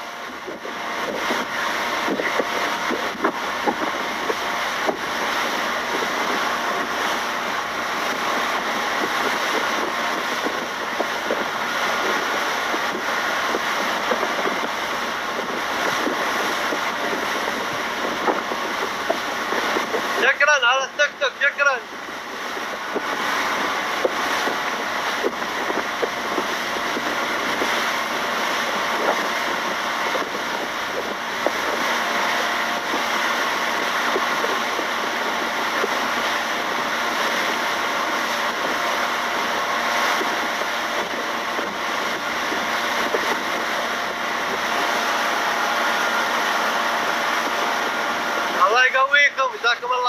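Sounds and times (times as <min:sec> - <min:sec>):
wind on microphone: 0:00.0 - 0:49.8
sea: 0:00.0 - 0:50.0.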